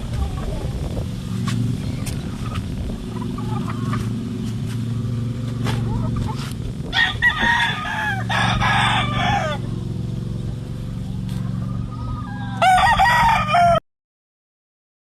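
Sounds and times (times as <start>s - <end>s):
steady low hum: 0.0s - 13.8s
roosters crowing: 1.3s - 13.8s.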